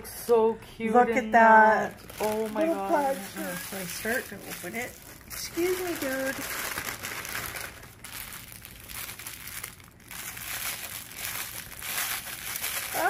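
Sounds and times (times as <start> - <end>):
plastic packaging crinkling: 1.8 - 13.0.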